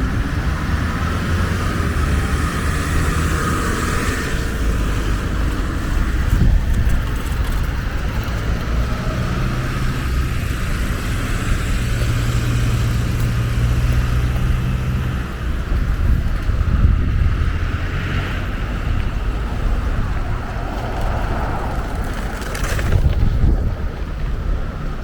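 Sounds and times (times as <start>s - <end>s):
passing vehicle engine hum: 0.0s - 25.0s
road traffic rumble: 0.0s - 25.0s.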